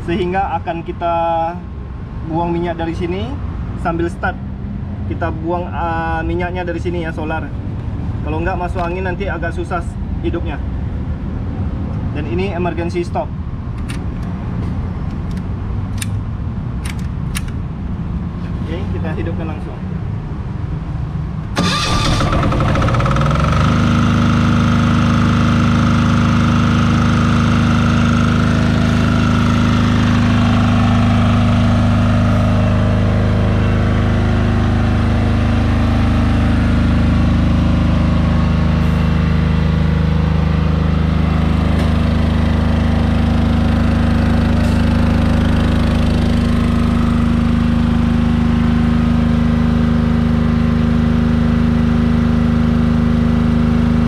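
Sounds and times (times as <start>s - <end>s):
diesel generator starting and running: 0.0s - 54.0s.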